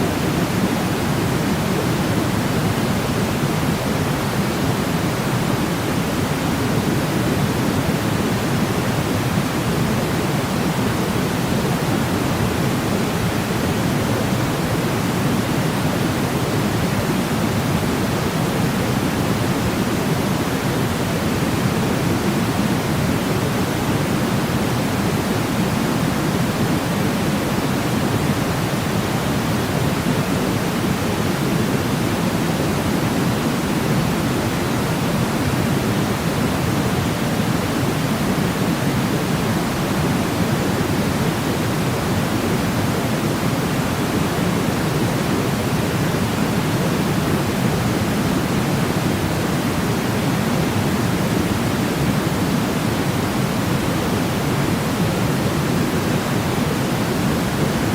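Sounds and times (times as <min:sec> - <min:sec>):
steady white noise hiss: 0:00.0 - 0:57.9.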